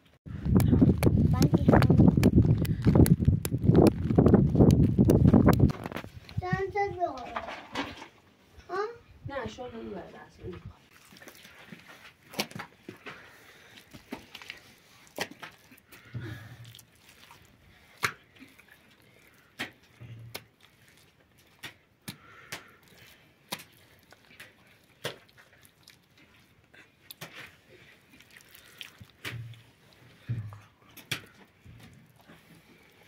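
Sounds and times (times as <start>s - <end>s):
hands slapping wet mud: 0.5s - 6.0s, 10.9s - 33.0s.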